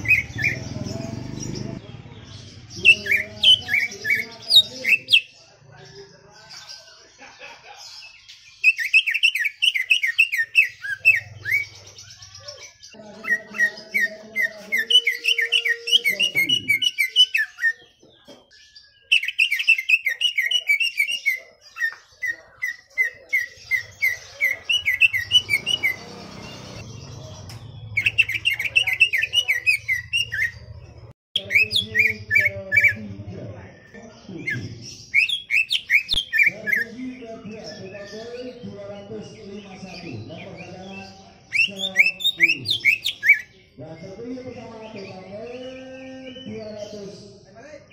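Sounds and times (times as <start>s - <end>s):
bird singing sharp repeated notes: 0.0s - 5.4s, 8.1s - 47.9s.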